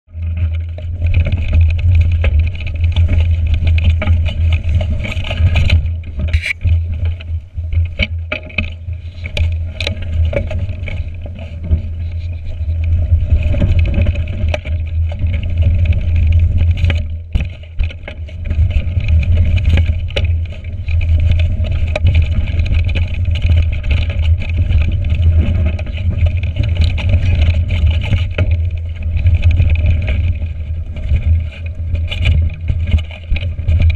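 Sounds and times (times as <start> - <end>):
wind rumbling on microphone: 0.0 - 33.9
bike rattling over roots: 0.1 - 33.9.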